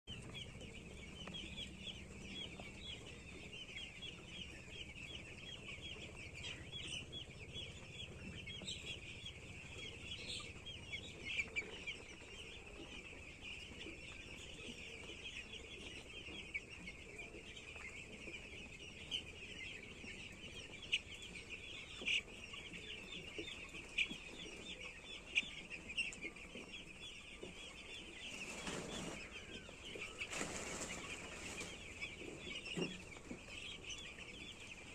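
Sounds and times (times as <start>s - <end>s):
chicks cheeping: 0.1s - 34.9s.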